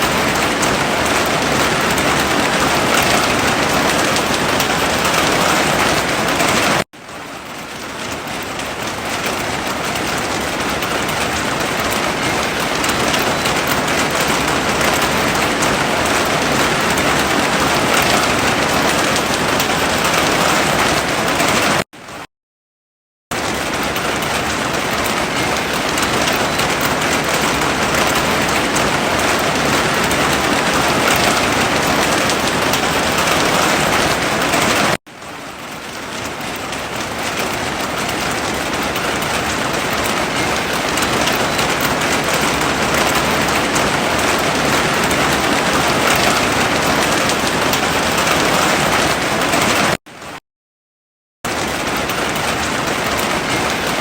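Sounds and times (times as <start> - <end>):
heavy rain falling: 0.0 - 22.2, 23.3 - 50.4, 51.5 - 54.0.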